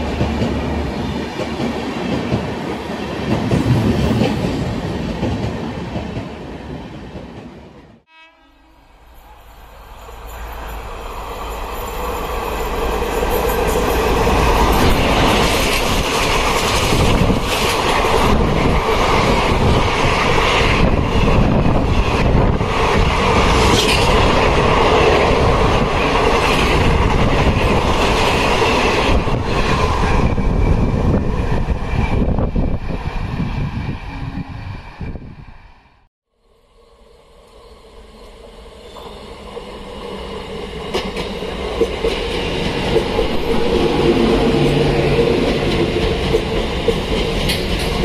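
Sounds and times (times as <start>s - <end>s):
passenger train rumbling past: 0.0s - 48.0s.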